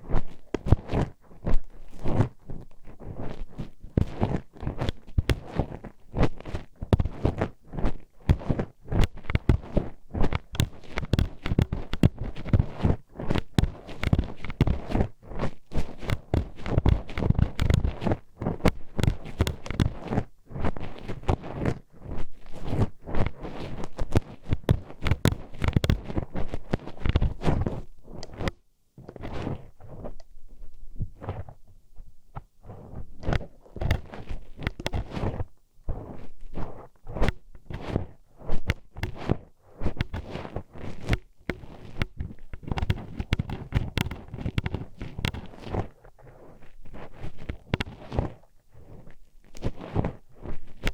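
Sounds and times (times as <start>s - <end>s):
metal hairpin scraping microphone: 0.0s - 31.7s, 32.4s - 50.9s.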